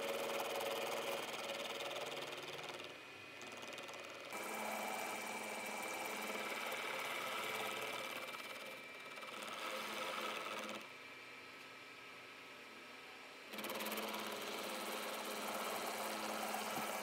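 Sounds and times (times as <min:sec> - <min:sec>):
milling machine whining: 0:00.0 - 0:11.3, 0:13.5 - 0:17.0.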